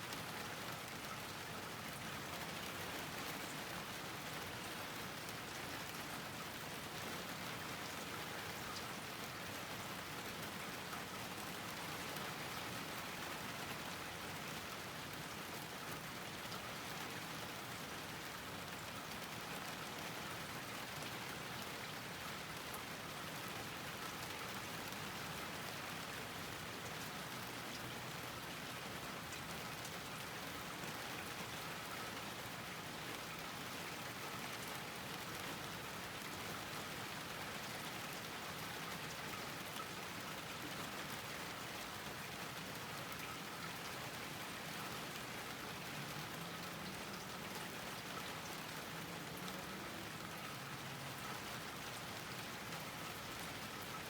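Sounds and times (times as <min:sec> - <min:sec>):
rain falling on a garden: 0:00.0 - 0:54.0.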